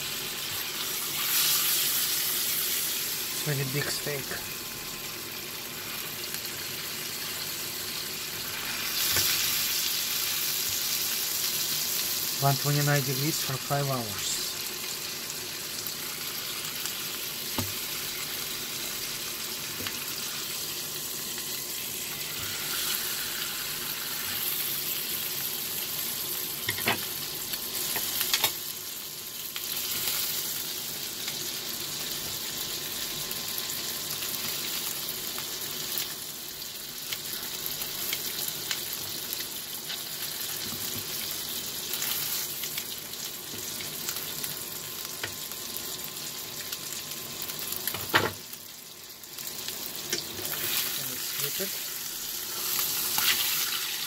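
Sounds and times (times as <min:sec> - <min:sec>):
steak sizzling in a skillet: 0:00.0 - 0:54.0.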